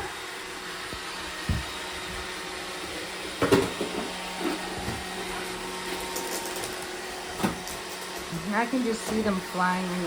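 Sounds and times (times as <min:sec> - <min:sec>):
robot vacuum cleaner humming: 0:00.0 - 0:10.0.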